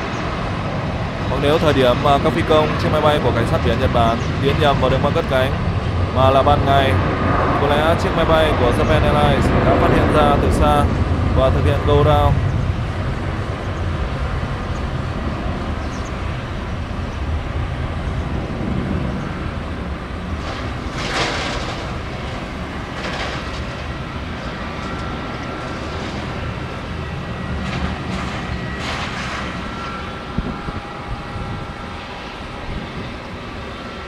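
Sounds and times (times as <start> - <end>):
jet engines at takeoff thrust: 0.0 - 34.0.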